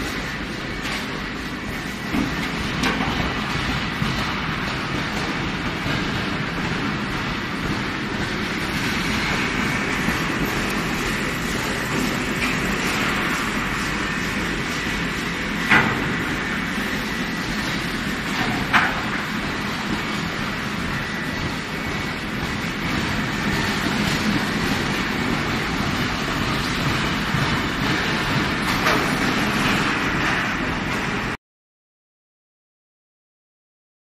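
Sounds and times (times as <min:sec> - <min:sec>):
heavy machinery rumbling and rattling: 0:00.0 - 0:31.4.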